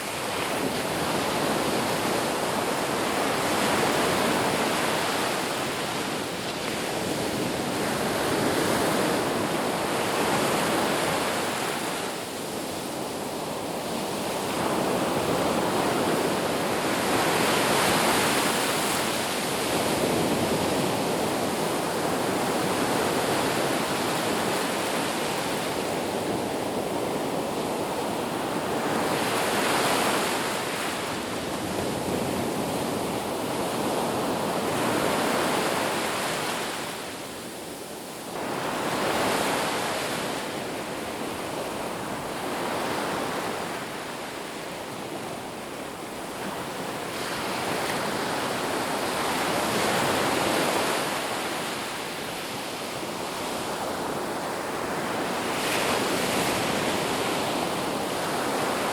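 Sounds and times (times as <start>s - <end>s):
waves breaking on beach: 0.0s - 58.9s.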